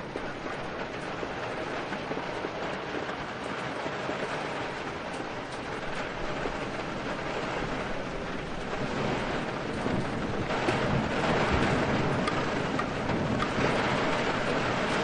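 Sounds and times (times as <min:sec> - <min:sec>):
low rumble of thunder: 0:00.0 - 0:15.0
steady rain: 0:00.0 - 0:15.0
wind: 0:00.0 - 0:15.0.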